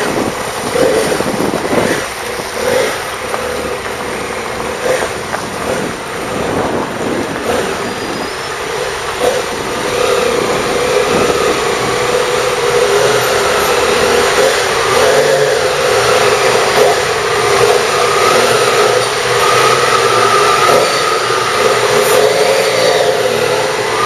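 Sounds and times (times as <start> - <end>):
motorcycle engines running: 0.0 - 24.0.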